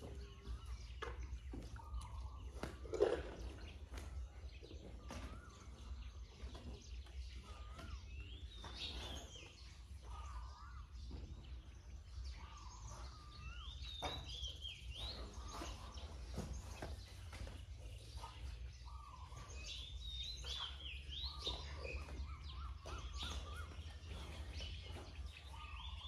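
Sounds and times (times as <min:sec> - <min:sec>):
high warbling bird calls: 0:00.0 - 0:17.1, 0:17.8 - 0:26.0.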